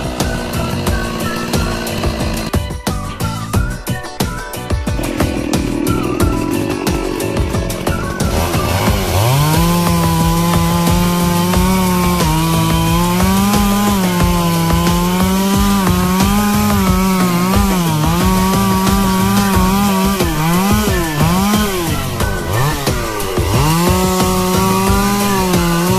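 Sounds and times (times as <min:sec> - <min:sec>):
chainsaw cutting wood: 0:00.0 - 0:03.4, 0:04.8 - 0:25.9.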